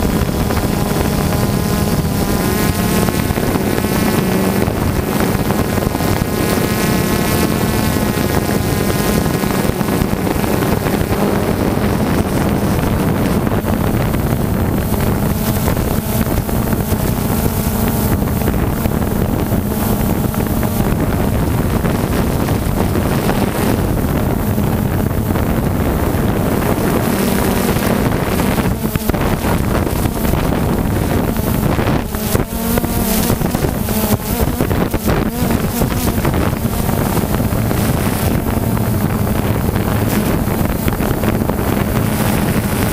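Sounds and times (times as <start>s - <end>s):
drone propellers humming: 0.0s - 42.9s
wind buffeting microphone: 0.0s - 42.9s.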